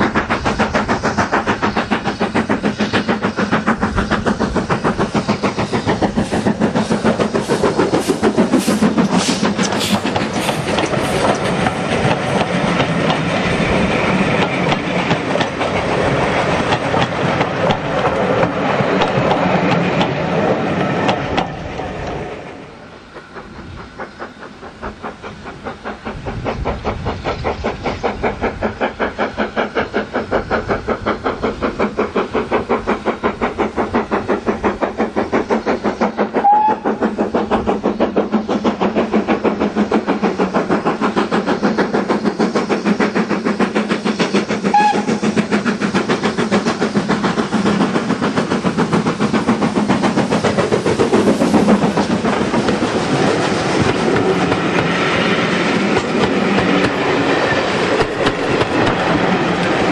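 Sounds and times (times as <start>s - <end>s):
steam locomotive exhaust beating: 0.0s - 59.9s
train wheels clicking over rail joints: 0.0s - 59.9s.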